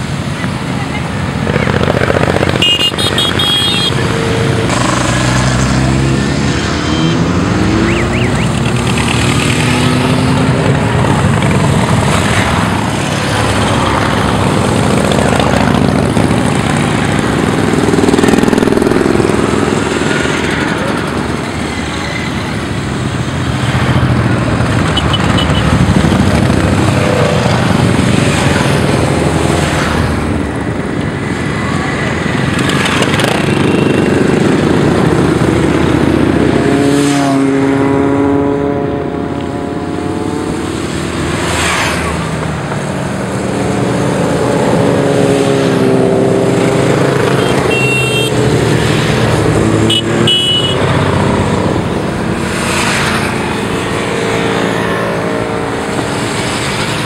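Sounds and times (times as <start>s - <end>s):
motorcycles riding past: 0.0s - 57.0s.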